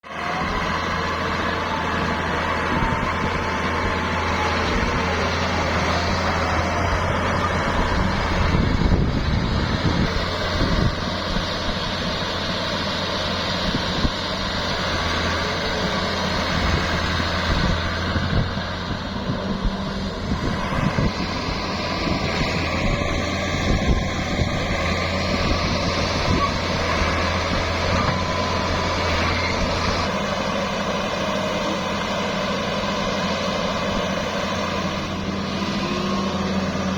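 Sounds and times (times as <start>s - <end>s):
diesel engines running: 0.0s - 36.9s.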